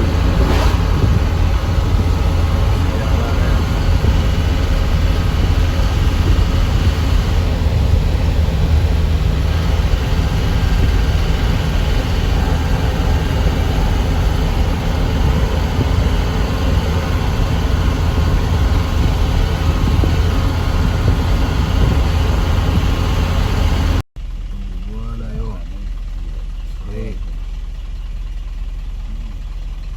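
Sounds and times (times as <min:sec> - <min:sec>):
truck engine and road rumble: 0:00.0 - 0:29.9.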